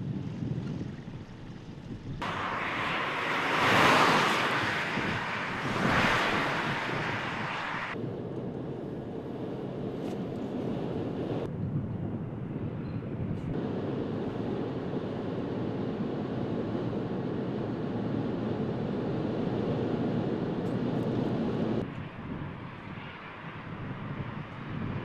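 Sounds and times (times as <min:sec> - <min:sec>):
car tyre and wind noise: 0:00.0 - 0:25.0.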